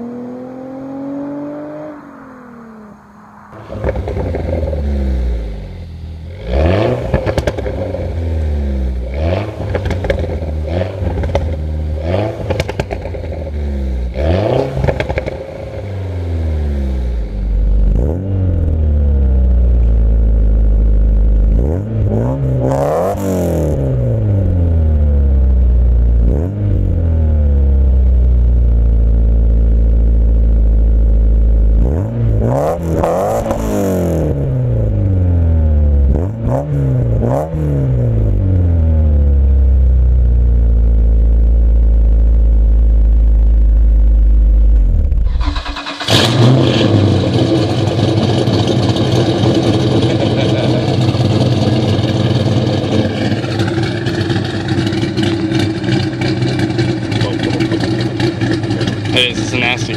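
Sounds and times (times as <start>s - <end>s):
car engine loud steady drone: 0.0s - 59.9s
car engine revving: 0.0s - 59.9s.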